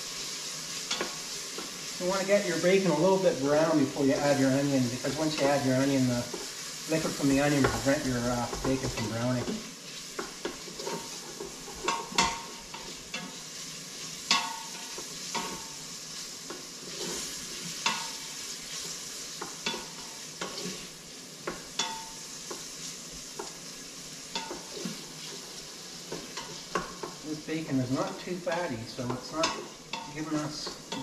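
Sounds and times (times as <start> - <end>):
bacon sizzling: 0.0 - 31.0.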